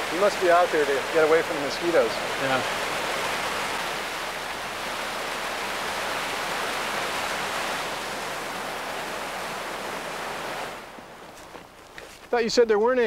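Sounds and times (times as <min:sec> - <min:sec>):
waterfall pouring into pool: 0:00.0 - 0:10.8.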